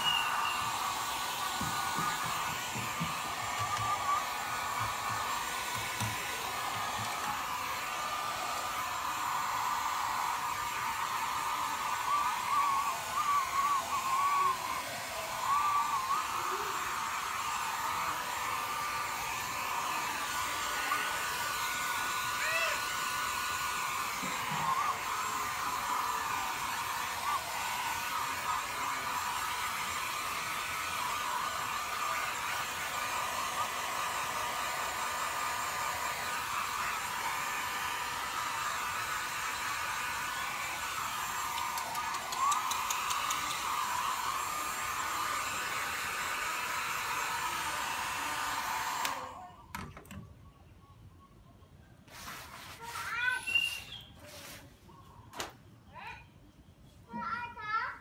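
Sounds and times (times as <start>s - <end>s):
hair dryer running: 0.0s - 49.5s.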